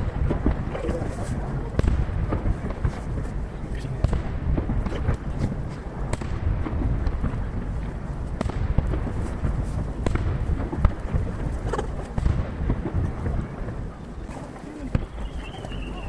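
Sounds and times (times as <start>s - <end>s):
distant firework shells bursting: 0.0s - 16.0s.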